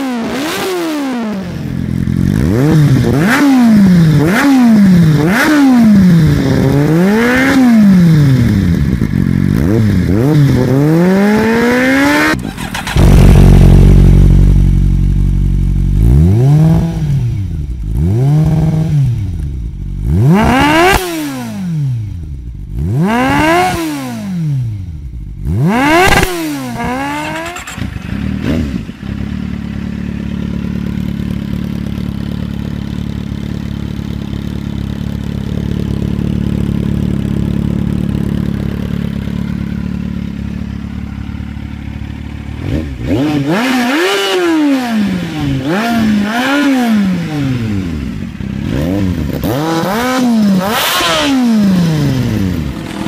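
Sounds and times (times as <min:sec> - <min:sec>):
motorcycle engine revving and idling: 0:00.0 - 0:53.0.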